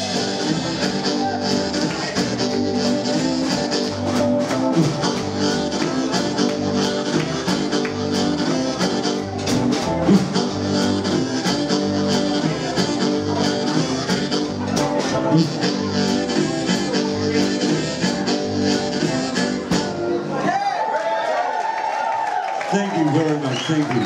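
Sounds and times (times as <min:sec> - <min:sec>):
drums keeping a steady beat: 0:00.0 - 0:20.1
amplified blues harmonica: 0:00.0 - 0:20.3
double bass: 0:00.0 - 0:20.3
electric guitar: 0:00.0 - 0:20.4.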